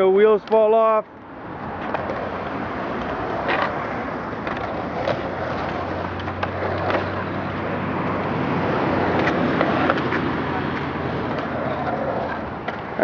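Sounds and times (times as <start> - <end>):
skateboard wheels rumbling: 0.0 - 13.0.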